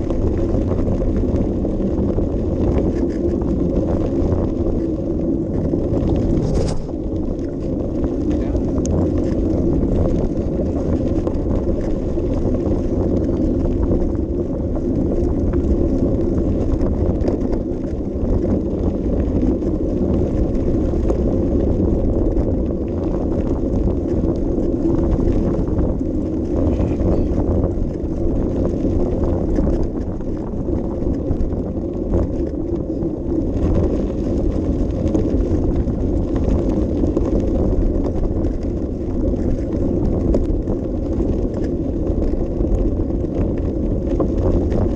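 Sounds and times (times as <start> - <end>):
bicycle tyres rolling on path: 0.0 - 44.9
wind buffeting microphone: 0.0 - 44.9.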